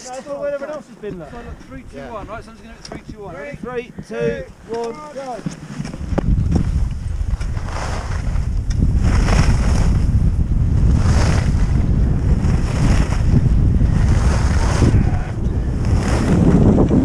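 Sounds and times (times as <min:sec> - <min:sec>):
wind rumble on microphone: 0:01.2 - 0:17.0.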